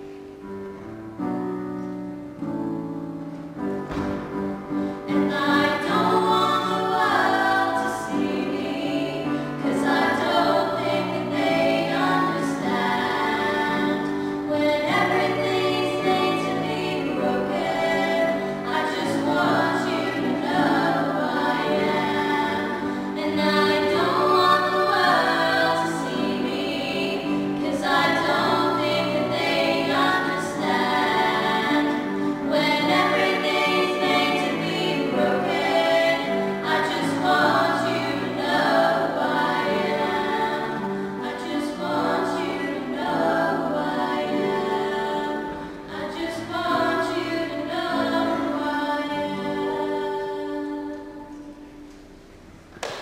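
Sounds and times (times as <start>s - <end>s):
women singing in harmony: 4.5s - 51.7s.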